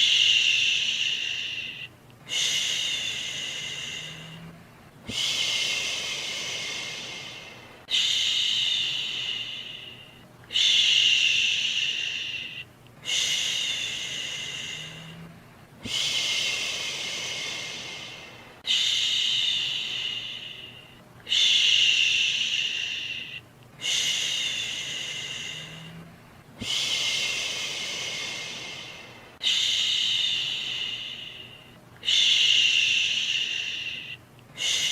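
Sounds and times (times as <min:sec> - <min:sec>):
person shushing: 0:00.0 - 0:34.9.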